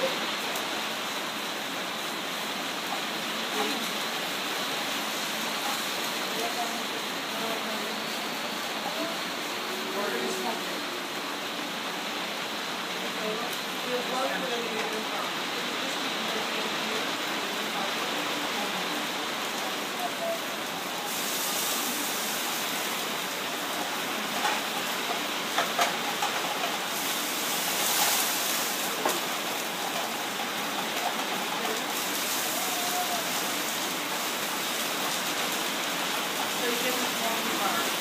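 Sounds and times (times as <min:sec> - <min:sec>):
pans sizzling: 0:00.0 - 0:38.0.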